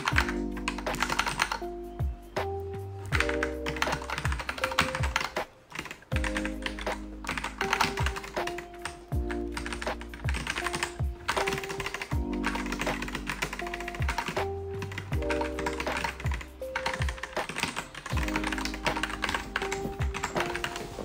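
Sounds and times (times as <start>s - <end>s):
fast typing on a keyboard: 0.0s - 1.7s, 3.1s - 21.0s
background music with bass line: 0.0s - 5.2s, 6.2s - 17.5s, 18.1s - 21.0s.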